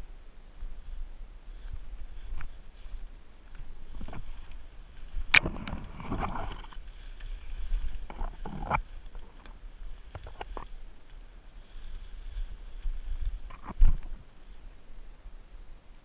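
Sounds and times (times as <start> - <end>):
branches and brush swishing: 0.6 - 15.0
twigs cracking: 1.5 - 14.7.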